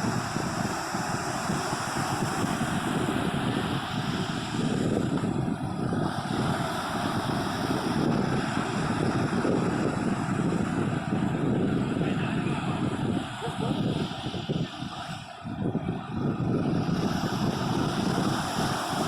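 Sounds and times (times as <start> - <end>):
surf washing on a beach: 0.0 - 19.0
wind buffeting microphone: 0.0 - 19.0.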